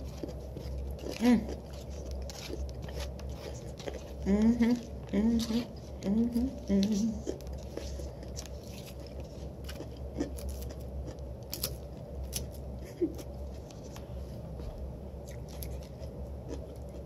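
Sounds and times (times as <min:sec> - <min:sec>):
chewing: 0:00.0 - 0:12.6, 0:15.2 - 0:17.0
steady low hum: 0:00.0 - 0:17.0.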